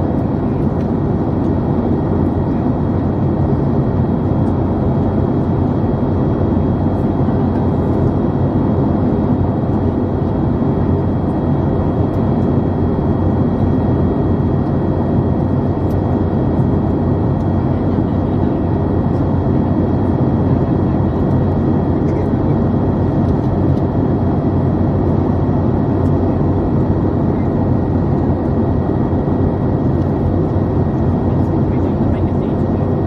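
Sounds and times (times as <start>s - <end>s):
airliner cabin noise: 0.0s - 33.0s.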